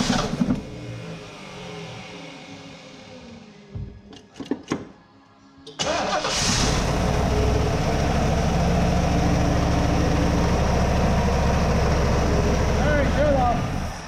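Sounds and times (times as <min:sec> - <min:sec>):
car engine starting and idling: 0:00.0 - 0:04.3, 0:05.7 - 0:14.0.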